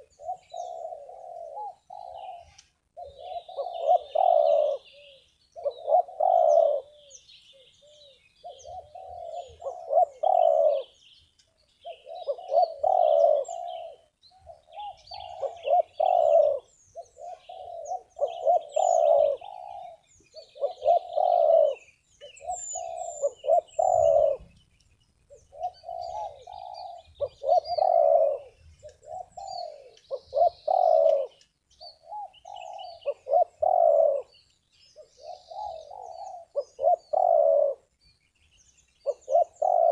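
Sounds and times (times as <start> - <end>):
dove cooing: 0.0 - 11.1, 11.8 - 24.6, 25.3 - 37.9, 39.0 - 39.9
faint small birds chirping: 0.0 - 39.9.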